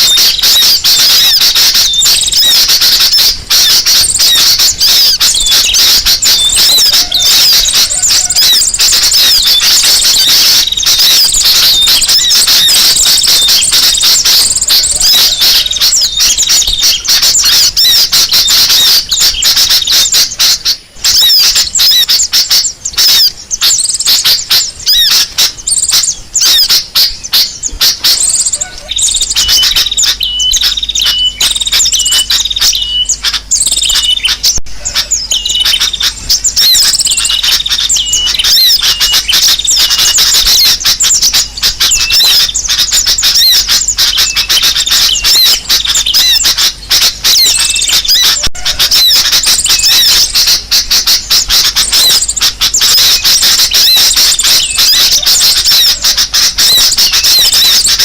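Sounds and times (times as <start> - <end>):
chorus of birds chirping: 0.0 - 58.0.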